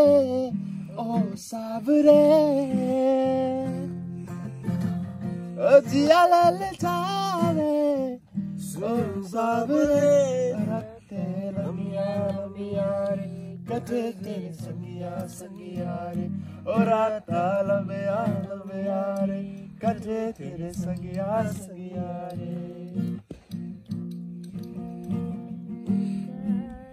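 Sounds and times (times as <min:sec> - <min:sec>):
person singing: 0:00.0 - 0:23.3, 0:24.4 - 0:26.9
acoustic guitar strumming: 0:00.0 - 0:26.9.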